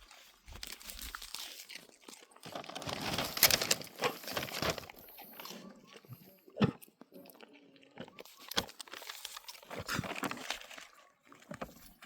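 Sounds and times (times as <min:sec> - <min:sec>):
animal crunching popcorn: 0:00.1 - 0:12.0.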